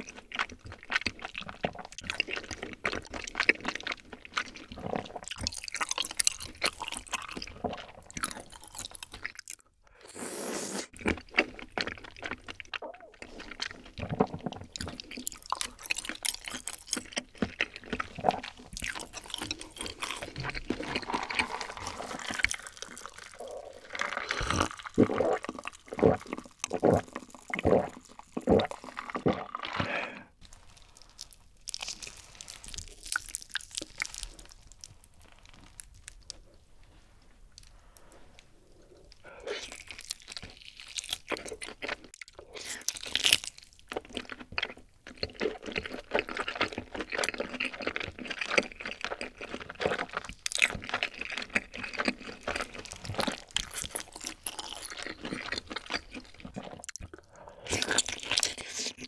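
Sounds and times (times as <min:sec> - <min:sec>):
wet chewing: 0:00.0 - 0:36.7, 0:37.3 - 0:59.0
food squishing: 0:00.0 - 0:59.0.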